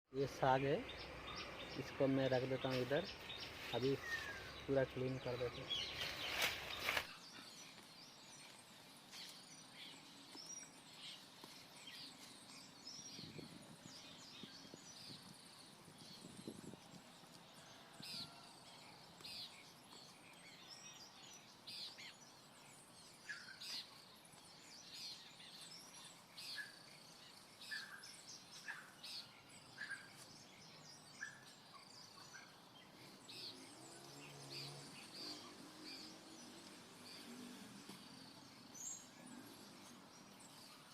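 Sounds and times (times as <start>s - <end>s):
birds chirping: 0.1s - 40.9s.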